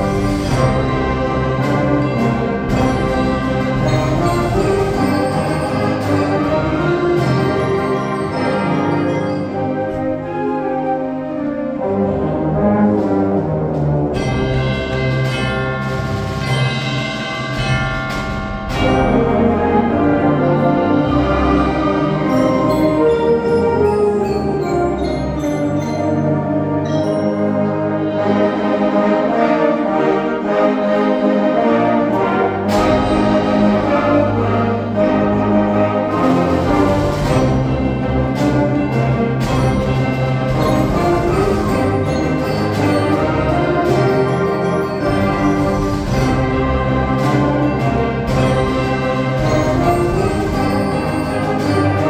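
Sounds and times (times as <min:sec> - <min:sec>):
concert band playing: 0:00.0 - 0:52.0.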